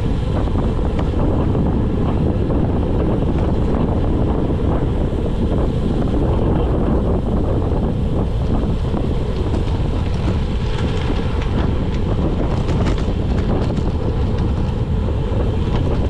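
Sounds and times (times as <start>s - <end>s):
wind rush on microphone: 0.0s - 16.0s.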